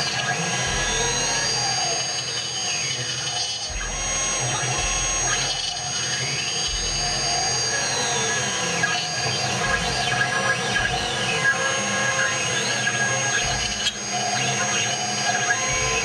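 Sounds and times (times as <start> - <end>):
cutter whine carving wood: 0.0 - 16.0
router spindle high whine: 0.0 - 16.0.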